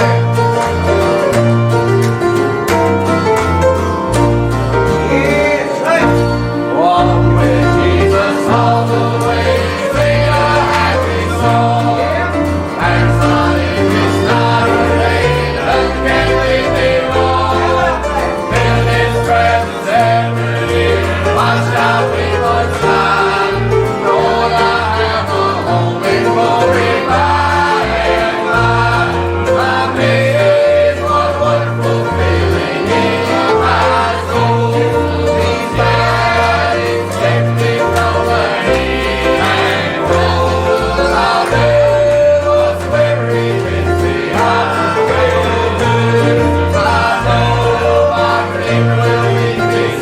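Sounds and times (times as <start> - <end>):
gospel singing with instruments: 0.0 - 50.0.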